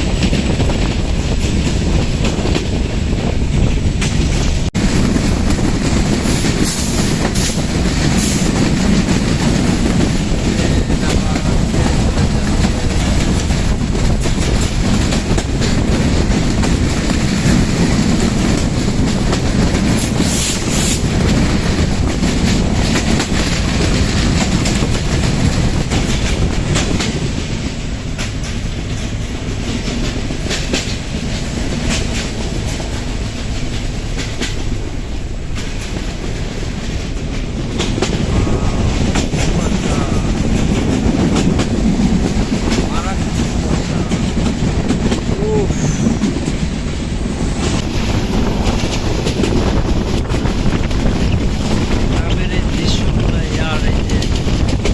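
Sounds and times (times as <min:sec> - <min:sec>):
train rumbling: 0:00.0 - 0:54.9
wheels clacking over rail joints: 0:00.0 - 0:54.9.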